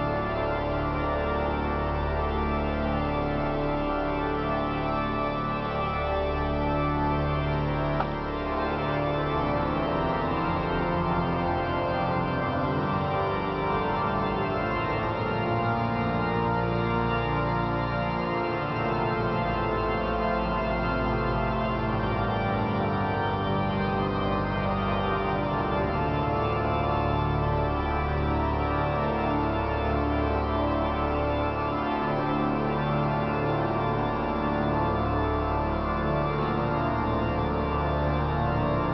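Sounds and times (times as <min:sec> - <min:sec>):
pipe organ chords: 0:00.0 - 0:38.9.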